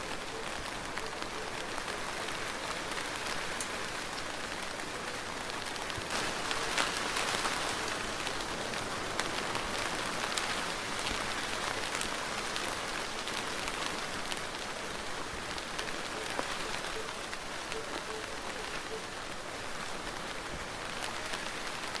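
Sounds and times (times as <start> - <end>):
rain drops ticking on surface: 0.0 - 22.0.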